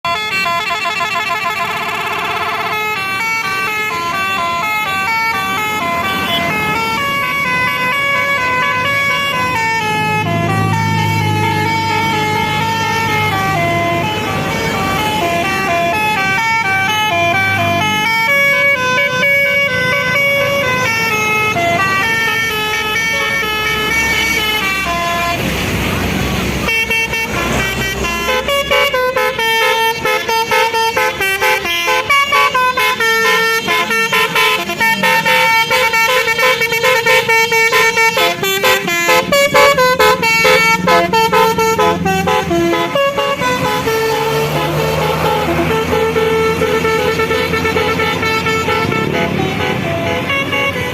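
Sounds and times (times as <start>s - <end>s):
trumpet horns playing a tune: 0.0s - 50.9s.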